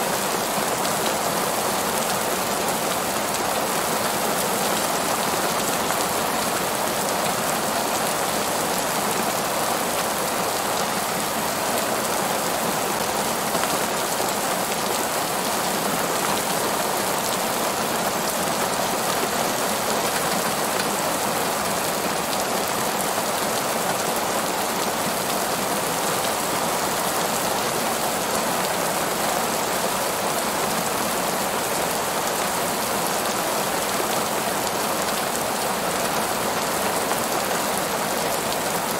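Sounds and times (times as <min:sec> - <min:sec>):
heavy rain on pavement: 0:00.0 - 0:38.9.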